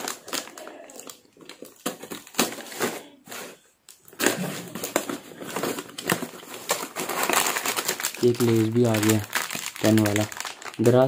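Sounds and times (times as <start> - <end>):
cardboard rustling: 1.6 - 10.8.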